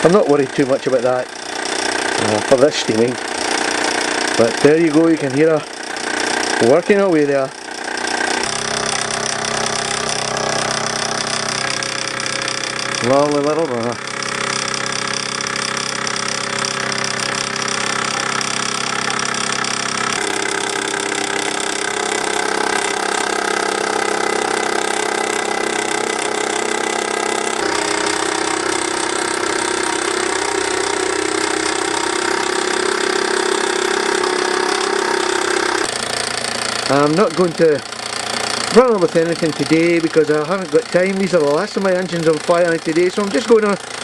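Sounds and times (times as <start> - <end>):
toy steam engine running: 0.0 - 44.0.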